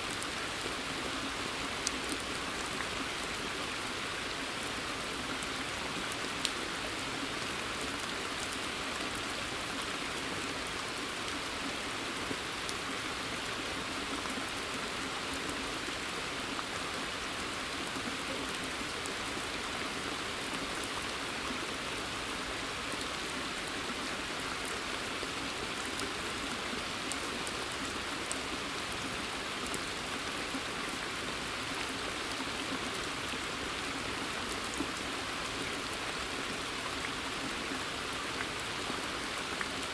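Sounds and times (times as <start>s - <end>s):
steady rain on a pond: 0.0s - 39.9s.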